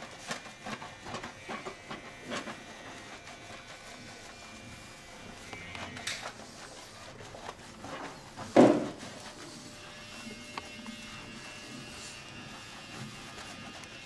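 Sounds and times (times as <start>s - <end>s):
faint electric device buzz: 0.0s - 14.0s.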